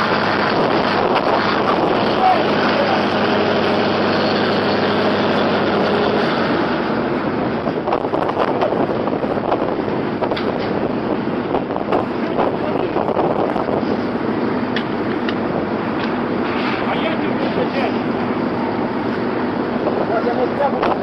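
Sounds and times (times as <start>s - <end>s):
engine running: 0.0s - 21.0s
wind noise on microphone: 0.0s - 21.0s.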